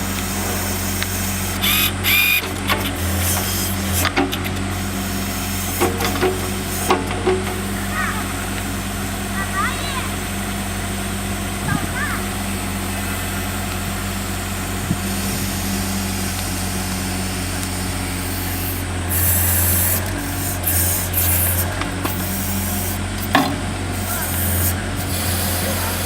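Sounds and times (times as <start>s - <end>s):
hydraulic hissing: 0.0s - 9.0s, 13.2s - 26.0s
loader engine running: 0.0s - 26.0s.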